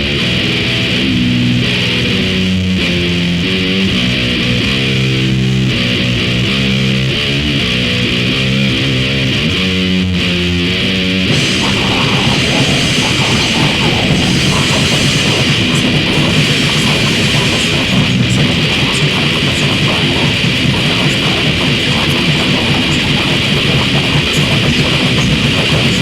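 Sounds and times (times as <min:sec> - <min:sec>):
band playing noisy blast: 0:00.0 - 0:26.0
distorted guitar riff: 0:00.0 - 0:26.0.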